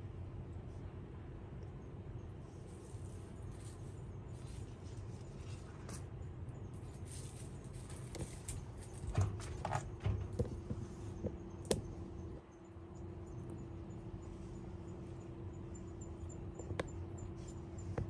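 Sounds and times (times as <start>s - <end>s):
outdoor background hum: 0.0s - 18.0s.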